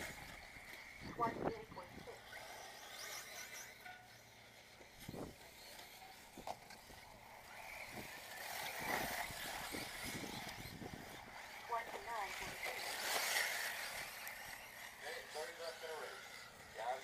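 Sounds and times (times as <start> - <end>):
electric motor whine: 0.0 - 17.0
tyres on dirt: 0.0 - 17.0.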